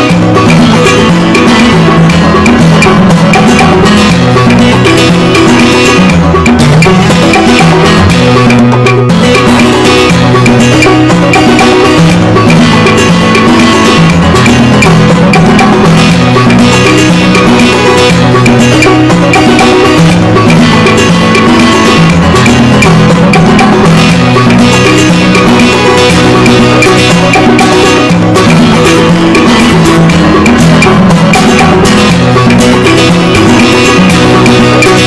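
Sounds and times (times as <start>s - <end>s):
music with percussive beat and bass: 0.0s - 35.0s.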